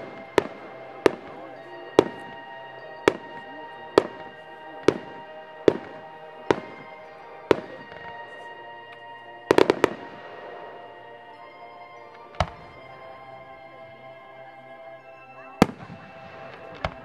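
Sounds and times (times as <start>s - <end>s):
distant fireworks bangs: 0.0s - 13.1s, 15.6s - 17.0s
background music: 0.0s - 17.0s.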